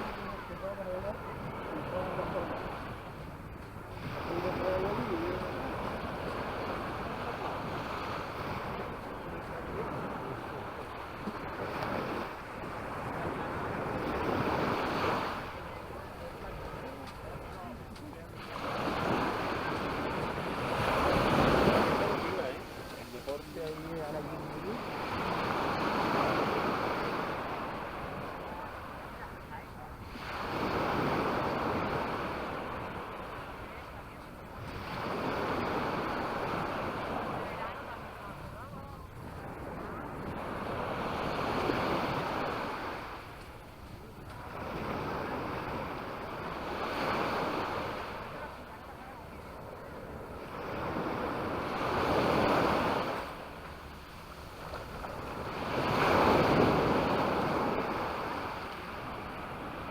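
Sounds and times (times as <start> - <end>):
small sea waves breaking: 0.0 - 59.9
wind on microphone: 0.0 - 59.9.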